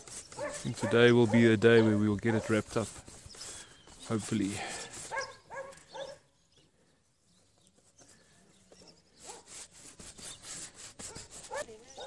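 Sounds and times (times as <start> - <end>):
paintbrush scrubbing on canvas: 0.0 - 6.0, 7.8 - 12.0.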